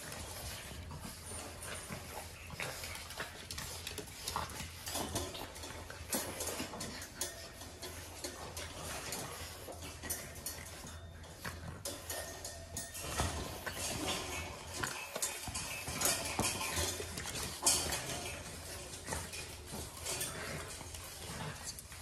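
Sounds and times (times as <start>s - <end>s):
puppy claws clicking on tile: 0.0s - 22.0s.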